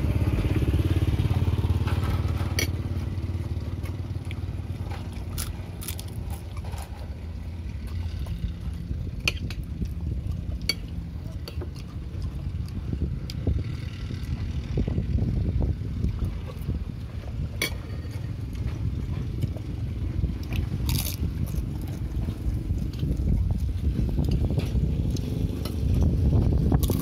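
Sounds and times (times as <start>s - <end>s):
motor engine rumble: 0.0s - 27.0s.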